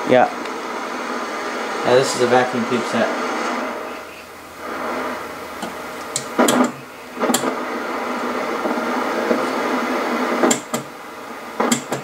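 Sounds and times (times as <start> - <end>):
tv static hiss: 0.0 - 12.0.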